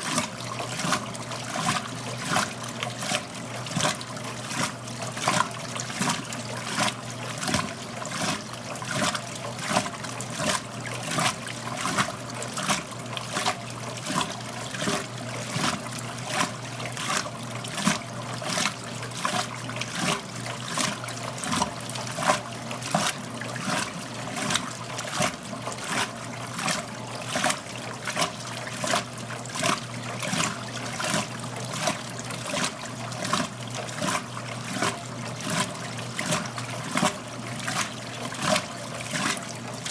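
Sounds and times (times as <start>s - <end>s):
water sloshing in washing machine: 0.0s - 39.9s.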